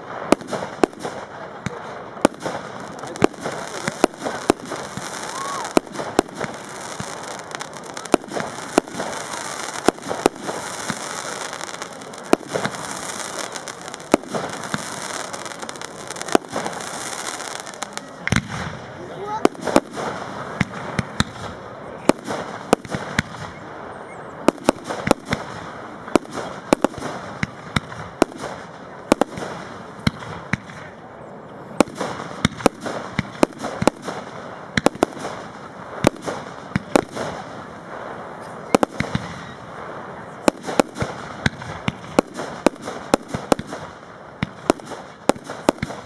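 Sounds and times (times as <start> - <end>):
fireworks bangs and cracks: 0.0 - 46.0.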